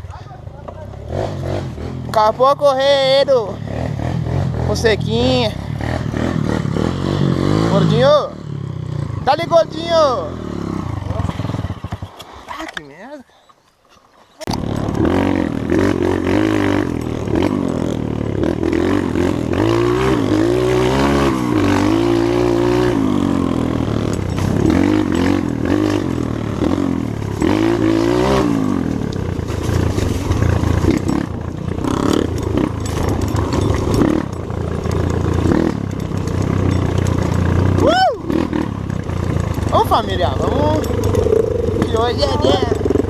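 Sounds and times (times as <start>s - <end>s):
motorcycle engine revving: 0.0s - 12.4s, 14.4s - 43.0s.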